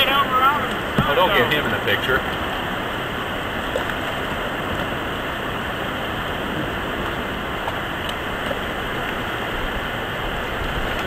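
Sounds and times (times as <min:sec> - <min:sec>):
river water rushing over rapids: 0:00.0 - 0:11.0.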